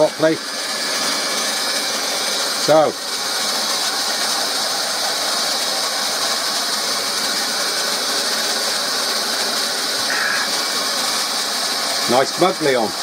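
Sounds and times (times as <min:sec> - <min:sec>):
hot-air gun fan blowing: 0:00.0 - 0:13.0.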